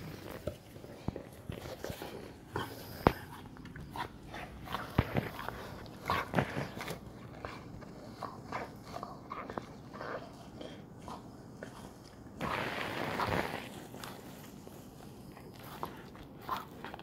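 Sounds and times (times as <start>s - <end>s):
dog chewing tennis ball: 0.0s - 12.4s, 15.2s - 17.0s.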